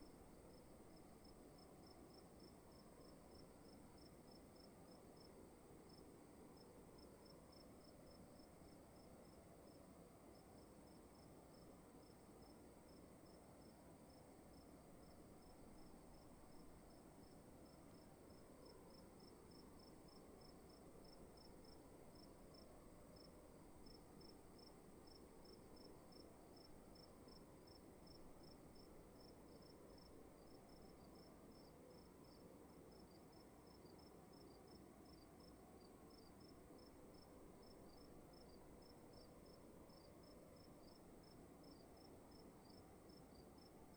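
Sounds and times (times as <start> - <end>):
crickets chirping: 0.0 - 43.9
low hiss of room noise: 0.0 - 43.9.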